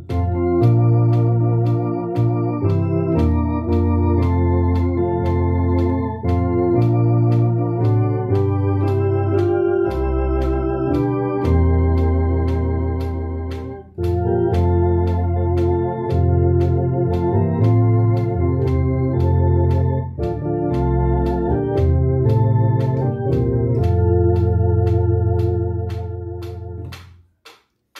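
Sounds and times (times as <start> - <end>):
electronic organ playing a hymn: 0.0 - 26.9
steady rhythm tick: 0.0 - 27.9.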